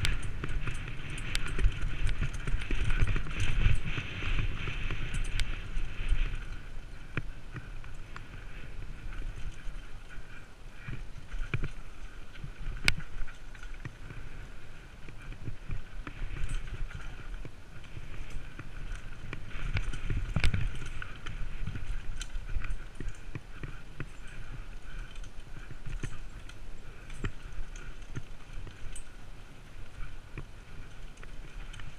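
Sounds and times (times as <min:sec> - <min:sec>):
bike rattling and knocking: 0:00.0 - 0:31.9.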